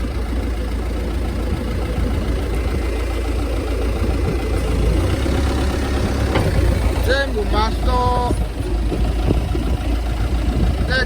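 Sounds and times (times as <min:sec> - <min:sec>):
forklift diesel engine running: 0:00.0 - 0:11.0.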